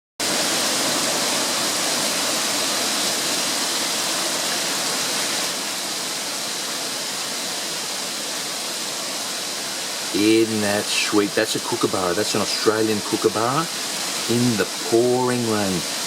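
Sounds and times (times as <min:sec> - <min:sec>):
heavy rain pouring: 0:00.2 - 0:16.0.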